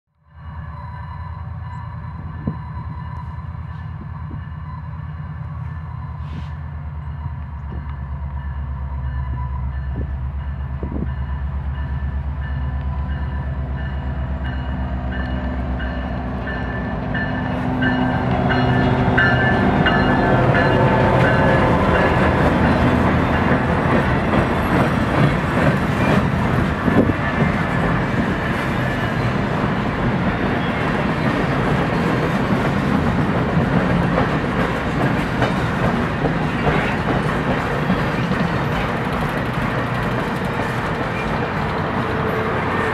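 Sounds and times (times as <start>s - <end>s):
wheels rumbling on rail: 0.2s - 42.9s
diesel locomotive engine throb: 0.4s - 42.9s.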